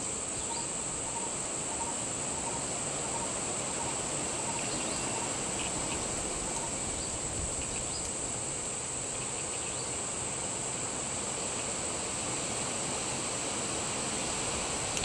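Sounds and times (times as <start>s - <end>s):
background hiss: 0.0s - 15.0s
high-pitched insect chorus: 0.0s - 15.0s.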